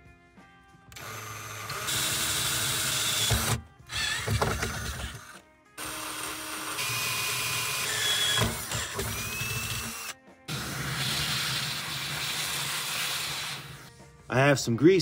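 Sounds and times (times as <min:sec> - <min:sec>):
cordless drill boring through metal: 0:00.9 - 0:13.9.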